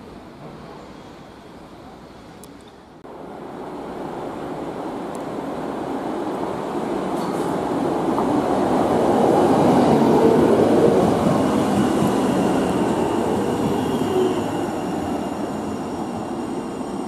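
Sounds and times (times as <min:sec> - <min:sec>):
faint tram whine: 0:00.0 - 0:17.0
tram wheels rumbling on rails: 0:03.3 - 0:17.0.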